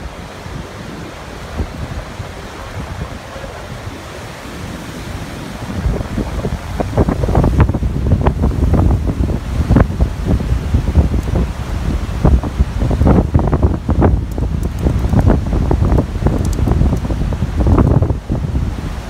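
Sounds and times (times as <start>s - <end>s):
river rapids roaring: 0.0s - 19.0s
wind buffeting microphone: 0.0s - 19.0s.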